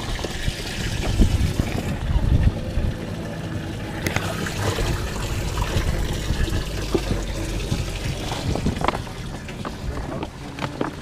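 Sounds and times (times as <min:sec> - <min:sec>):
water trickling and splashing: 0:00.0 - 0:11.0
steady low hum: 0:00.1 - 0:11.0.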